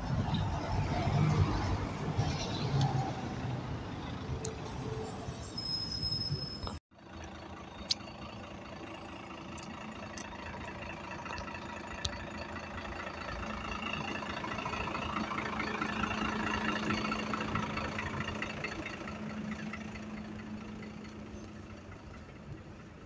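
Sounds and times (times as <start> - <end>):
bus engine idling: 1.7 - 23.0.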